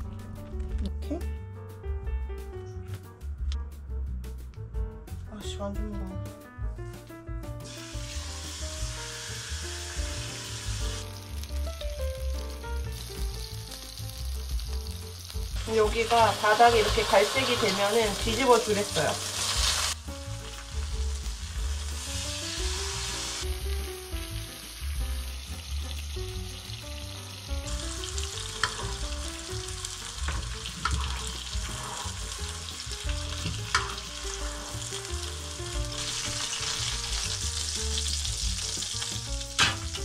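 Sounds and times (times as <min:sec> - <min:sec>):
light background music: 0:00.0 - 0:40.0
steak sizzling in a frying pan: 0:07.6 - 0:40.0.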